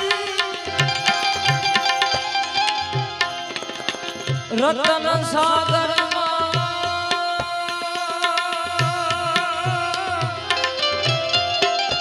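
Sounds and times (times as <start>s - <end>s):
harmonium melody: 0.0s - 12.0s
tabla beat: 0.0s - 12.0s.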